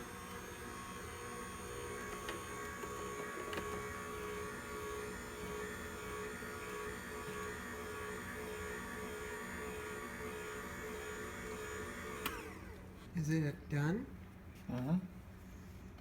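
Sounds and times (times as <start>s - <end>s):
juicer humming: 0.0s - 13.0s.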